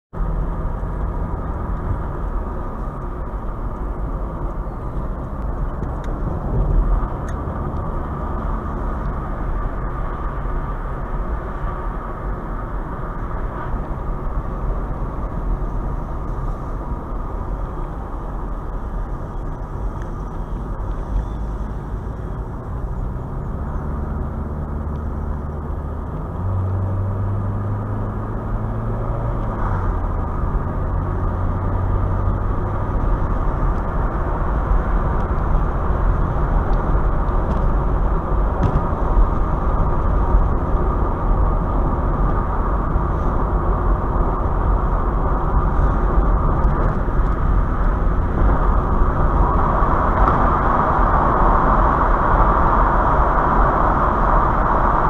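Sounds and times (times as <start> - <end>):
car engine hum: 0.1 - 55.0.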